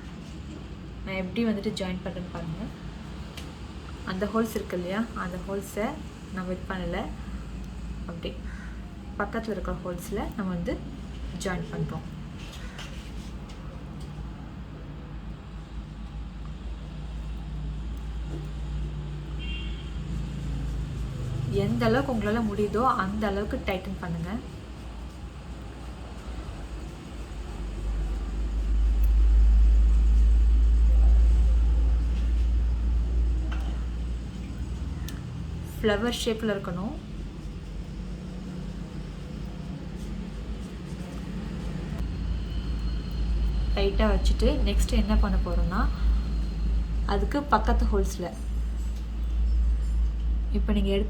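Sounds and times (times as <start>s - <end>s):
low rumble of traffic: 0.0s - 51.0s.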